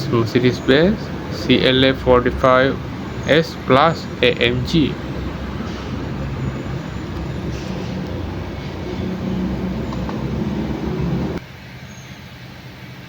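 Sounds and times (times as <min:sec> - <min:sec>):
car engine rumbling: 0:00.0 - 0:11.4.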